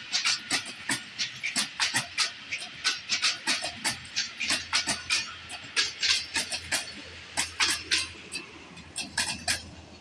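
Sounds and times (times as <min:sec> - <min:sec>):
low train rumble: 0:00.0 - 0:10.0
wheels clacking over rail joints: 0:00.0 - 0:10.0.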